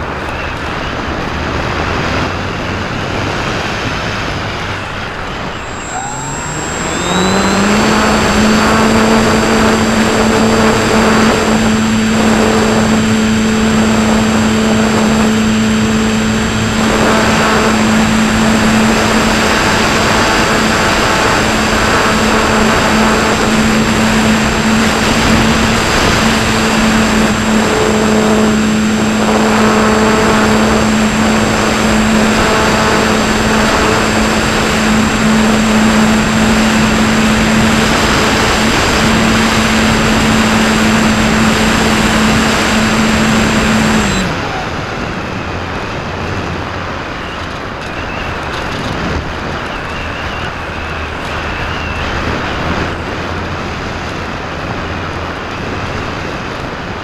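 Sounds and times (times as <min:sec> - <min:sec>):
thin high whine: 0:00.0 - 0:56.9
electric motor and propeller drone: 0:00.0 - 0:57.0
airflow rushing: 0:00.9 - 0:47.2.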